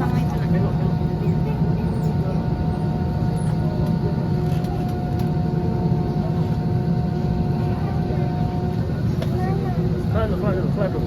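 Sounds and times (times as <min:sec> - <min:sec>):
jet engine cabin rumble and whine: 0:00.0 - 0:11.0.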